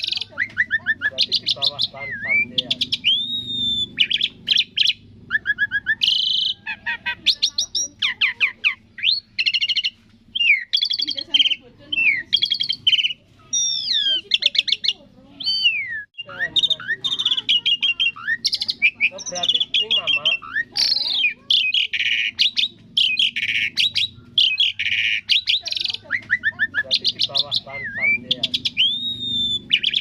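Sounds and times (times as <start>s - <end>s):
starling singing whistles and chatter: 0.0s - 30.0s.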